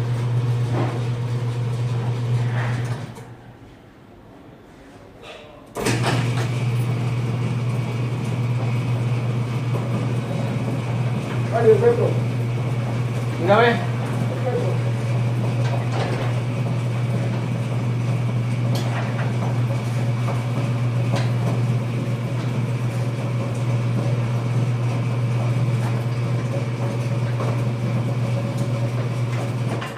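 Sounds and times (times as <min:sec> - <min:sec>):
garage door motor hum: 0:00.0 - 0:03.7, 0:05.7 - 0:29.9.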